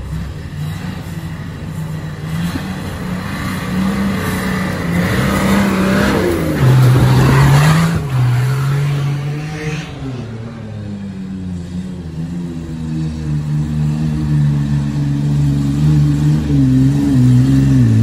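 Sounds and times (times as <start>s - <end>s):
off-road engine under load: 0.0s - 18.0s.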